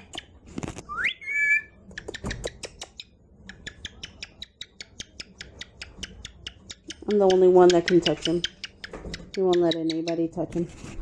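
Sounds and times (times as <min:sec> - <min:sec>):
pet birds chirping and whistling: 0:00.9 - 0:10.2.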